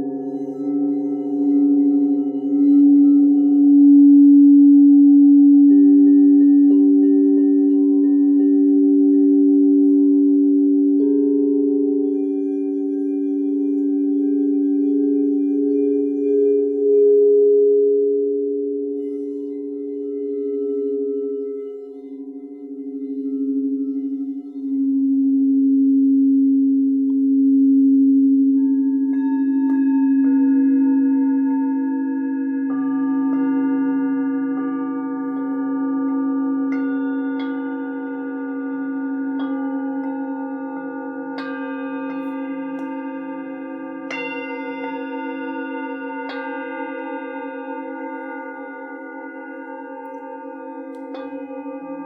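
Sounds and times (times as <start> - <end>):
higher singing bowl pulsing: 0.0 - 52.0
low singing bowl tone: 0.0 - 52.0.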